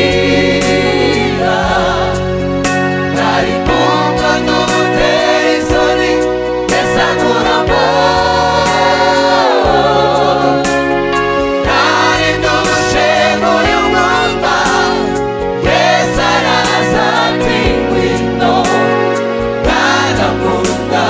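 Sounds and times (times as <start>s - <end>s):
gospel choir singing: 0.0s - 21.0s
instrumental backing: 0.0s - 21.0s
lead singer on microphone: 0.0s - 21.0s.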